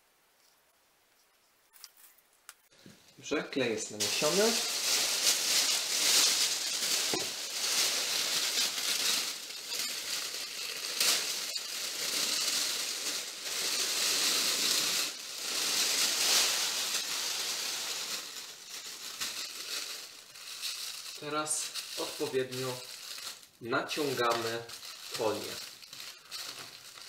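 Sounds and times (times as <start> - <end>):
foil sheet crinkling: 4.0 - 27.0.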